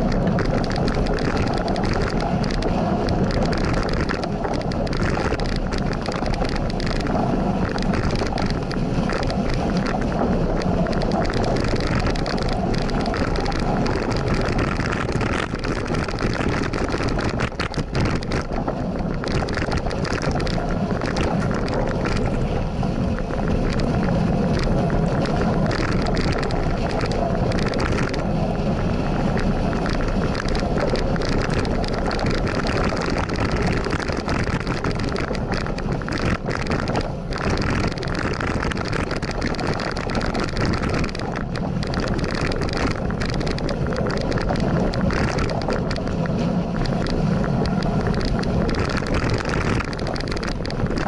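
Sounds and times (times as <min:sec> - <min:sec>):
bike clicks and rattles: 0:00.0 - 0:51.0
wind rushing over microphone: 0:00.0 - 0:51.0.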